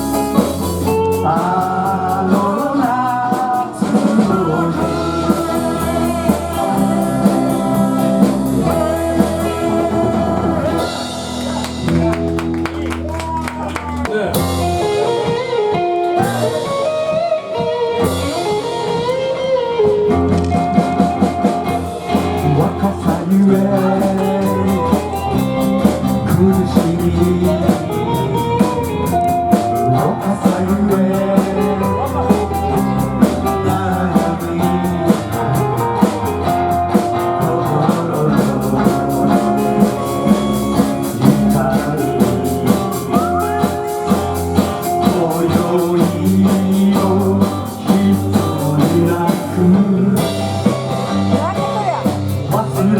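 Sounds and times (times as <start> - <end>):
bass guitar: 0.0 - 52.9
drum kit with cymbals: 0.0 - 52.9
electric guitars: 0.0 - 52.9.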